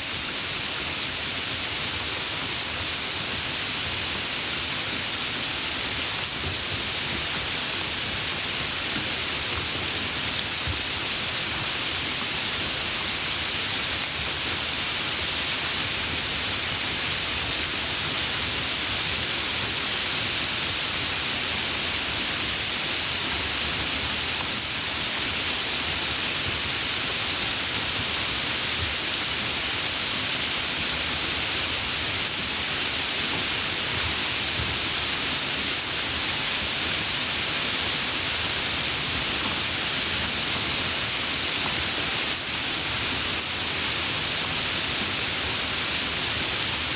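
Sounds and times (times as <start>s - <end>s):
gentle rain falling: 0.0s - 46.9s.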